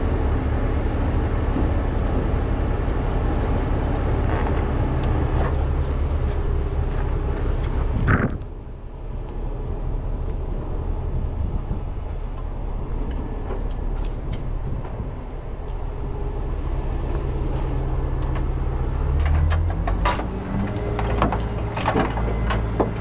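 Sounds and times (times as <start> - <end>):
heavy vehicle engine rumbling: 0.0 - 23.0.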